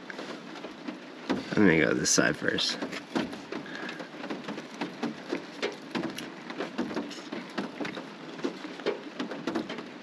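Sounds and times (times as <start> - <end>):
rain pattering on a vehicle: 0.0 - 10.0
steady rain hiss: 0.0 - 10.0.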